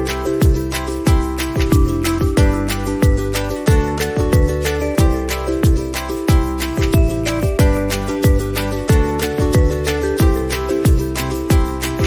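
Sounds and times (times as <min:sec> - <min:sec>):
instrumental music with steady beat: 0:00.0 - 0:12.0
deep kick drum: 0:00.4 - 0:11.8.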